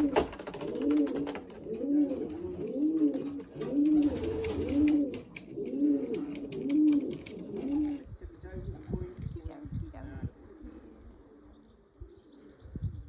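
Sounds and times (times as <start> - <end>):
pigeon cooing: 0.0 - 8.1, 10.0 - 12.7.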